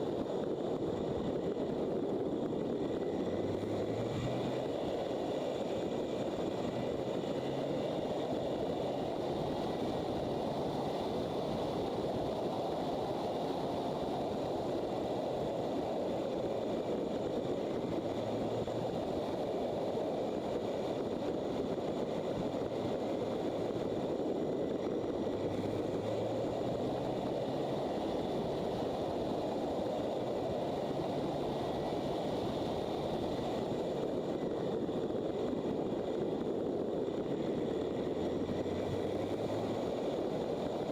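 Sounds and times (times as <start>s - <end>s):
wind rush over microphone: 0.0s - 40.9s.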